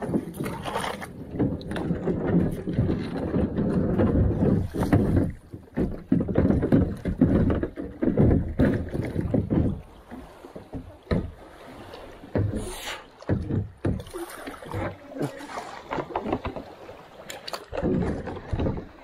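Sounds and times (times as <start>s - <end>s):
paddle splashing in water: 0.0s - 19.0s.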